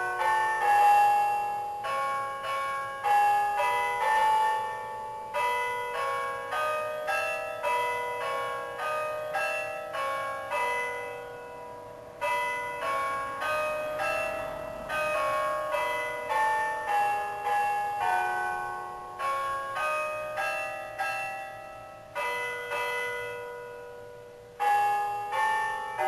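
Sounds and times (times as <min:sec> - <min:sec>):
carillon bells playing slow melody: 0:00.0 - 0:26.0.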